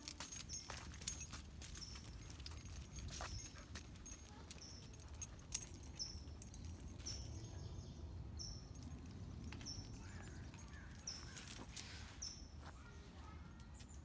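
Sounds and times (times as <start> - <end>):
bird chirping: 0.4 - 13.0.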